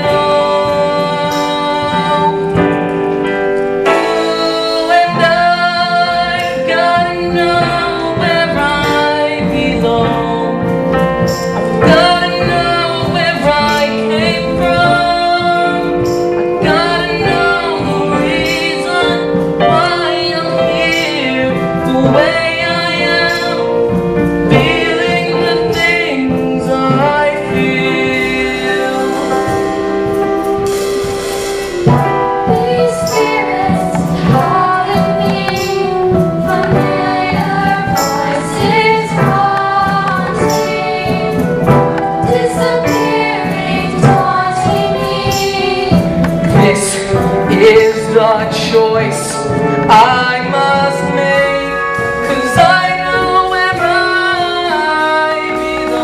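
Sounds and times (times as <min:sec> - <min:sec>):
instrumental accompaniment: 0:00.0 - 0:56.0
person singing with vibrato: 0:00.0 - 0:56.0.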